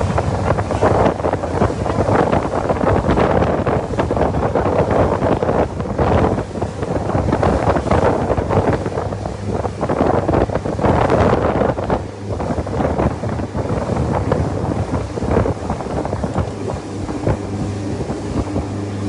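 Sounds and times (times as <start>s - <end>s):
low engine hum: 0.0s - 19.0s
wind buffeting microphone: 0.0s - 19.0s.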